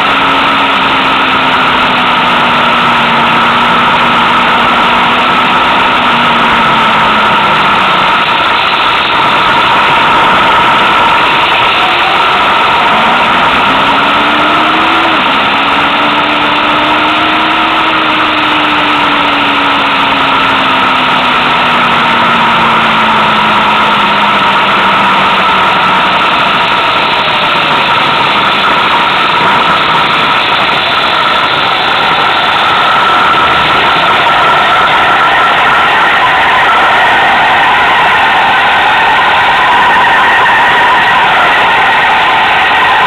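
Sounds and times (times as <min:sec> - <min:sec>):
motorcycle engine: 0:00.0 - 0:43.0
wind and road noise: 0:00.0 - 0:43.0.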